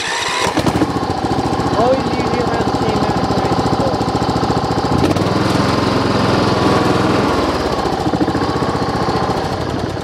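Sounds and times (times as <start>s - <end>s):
lawn tractor engine running: 0.0s - 10.0s.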